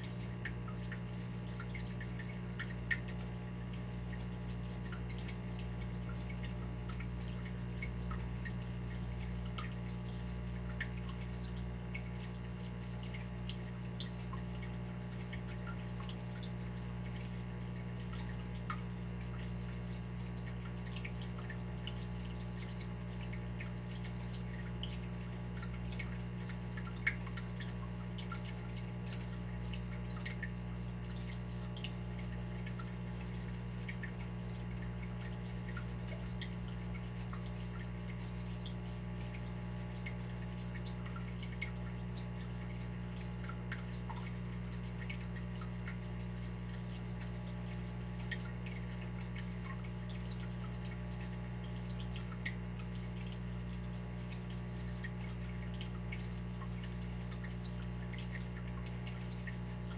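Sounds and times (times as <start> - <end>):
water drips and plinks: 0.0 - 59.9.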